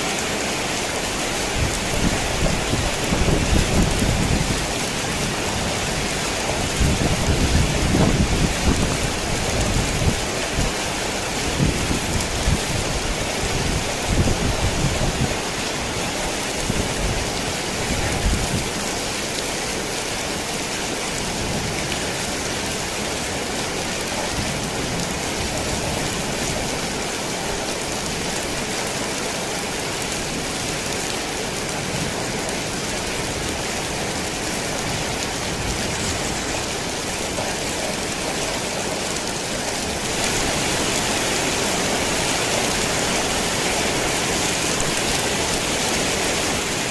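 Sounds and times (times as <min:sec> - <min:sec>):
rain on a tin roof: 0:00.0 - 0:46.9.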